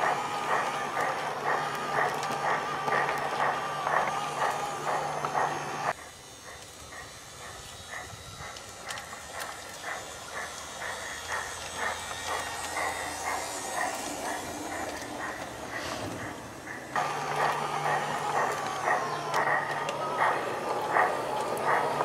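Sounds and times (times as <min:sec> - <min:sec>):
model train motor whirring: 0:00.0 - 0:22.0
model train wheels clicking: 0:00.0 - 0:22.0.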